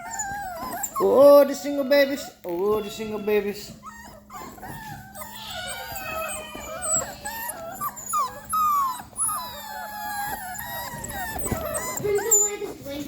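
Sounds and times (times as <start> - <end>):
puppies whining and crying: 0.0 - 13.0.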